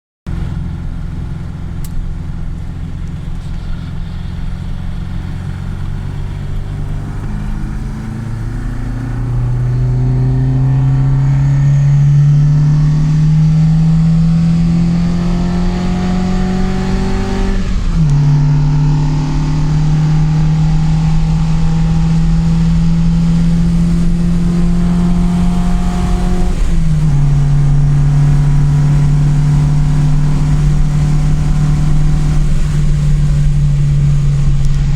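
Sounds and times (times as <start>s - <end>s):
car engine accelerating: 0.3s - 34.9s.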